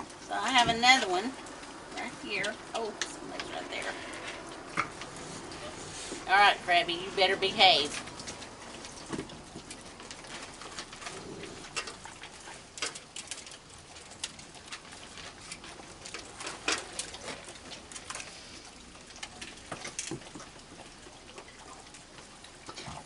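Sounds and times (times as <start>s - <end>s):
raccoons crunching food: 0.0s - 23.0s.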